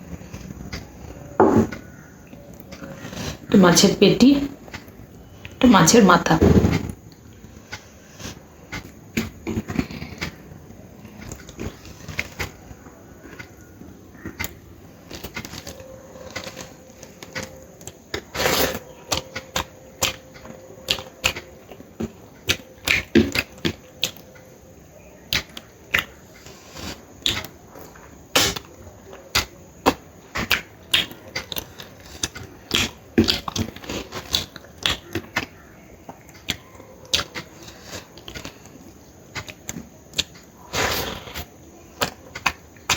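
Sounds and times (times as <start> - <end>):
wet chewing: 7.0 - 24.6, 25.2 - 42.9.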